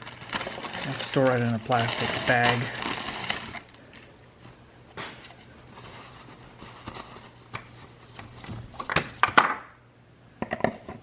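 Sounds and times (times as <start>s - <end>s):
plastic bag rustling: 0.0s - 8.8s.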